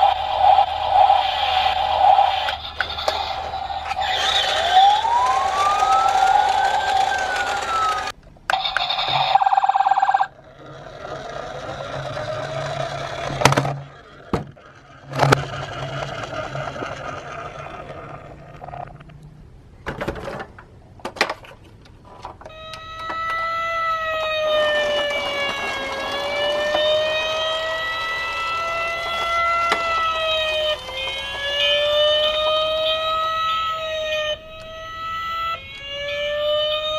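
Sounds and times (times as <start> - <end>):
toy electronic siren: 0.0 - 18.4, 22.5 - 36.9
toy cars rolling: 0.0 - 19.2, 19.9 - 36.9.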